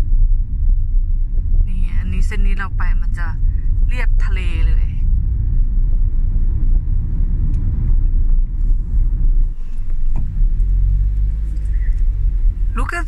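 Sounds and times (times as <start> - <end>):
car cabin road rumble: 0.0 - 13.0
engine hum: 0.0 - 13.0.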